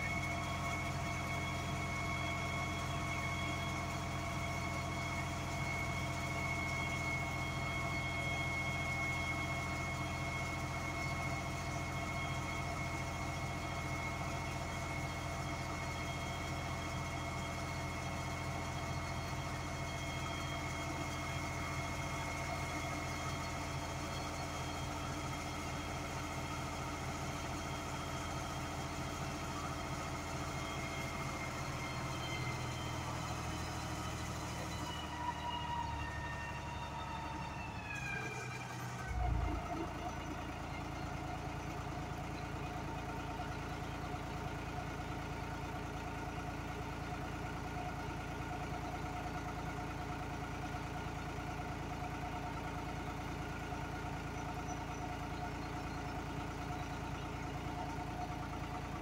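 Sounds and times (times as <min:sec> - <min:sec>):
sewer jetting engine running: 0:00.0 - 0:59.0.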